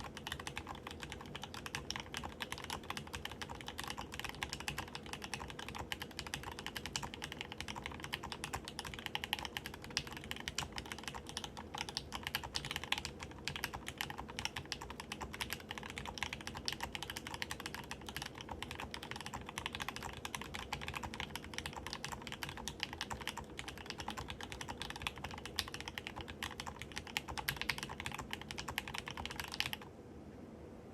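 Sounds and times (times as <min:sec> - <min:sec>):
fast typing on mechanical keyboard: 0:00.0 - 0:29.8.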